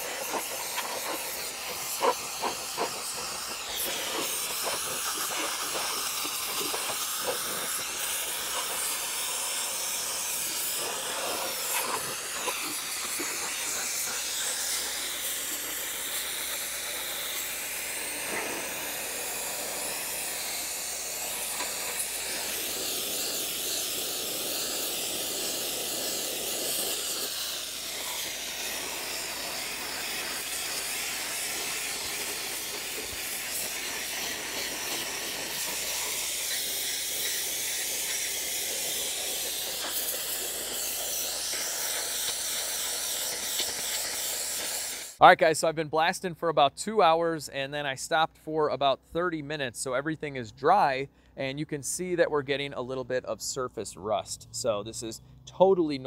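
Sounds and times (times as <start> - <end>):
pressure washer sandblasting metal: 0.0 - 45.2.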